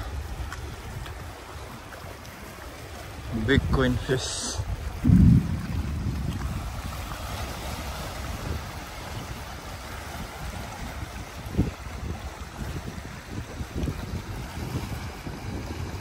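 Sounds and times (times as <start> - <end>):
sea water washing on shore: 0.0 - 16.0
wind noise on microphone: 0.0 - 16.0.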